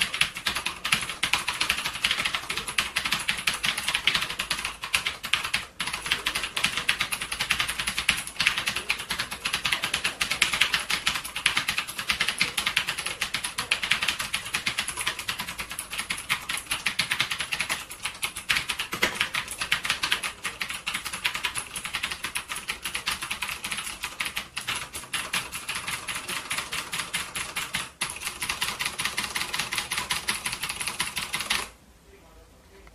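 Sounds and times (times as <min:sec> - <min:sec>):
fast keyboard typing: 0:00.0 - 0:31.8.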